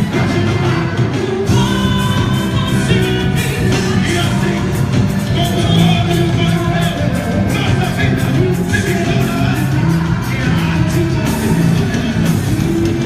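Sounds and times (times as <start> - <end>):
festive music beat: 0.0 - 13.0
person singing: 0.0 - 13.0.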